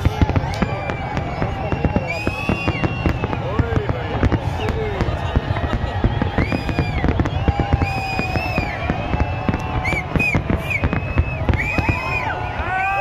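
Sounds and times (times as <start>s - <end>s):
fireworks bangs and crackling: 0.0s - 13.0s
fireworks whistling: 0.0s - 13.0s.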